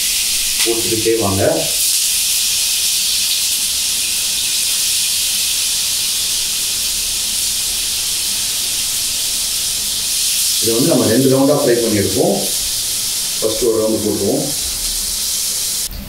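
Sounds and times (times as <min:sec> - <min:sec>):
fish sizzling in hot oil: 0:00.0 - 0:15.9.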